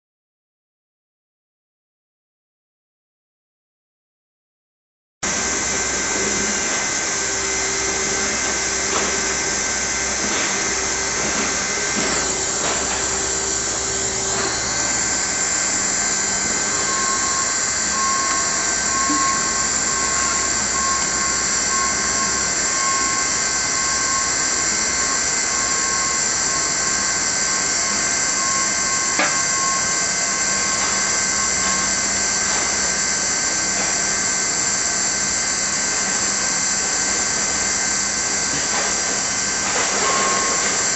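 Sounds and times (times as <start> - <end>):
hot-air welding gun blowing: 5.2 - 40.9.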